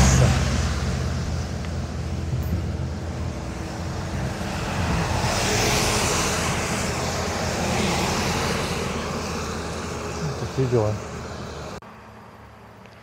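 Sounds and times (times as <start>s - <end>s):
vehicle passing on highway: 0.0s - 13.0s.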